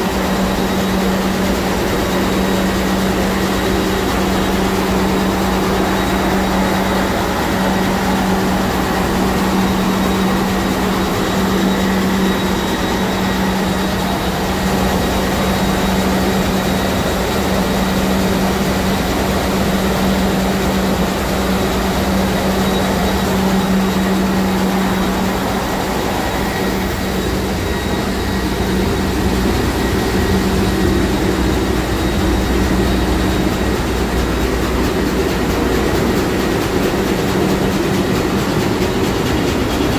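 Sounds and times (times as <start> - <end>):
turbocharger whine: 0.0 - 39.8
marine diesel engine running: 0.0 - 39.9.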